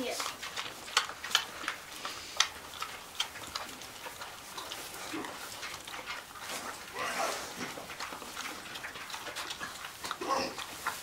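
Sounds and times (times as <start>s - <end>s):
pig chewing: 0.0s - 11.0s.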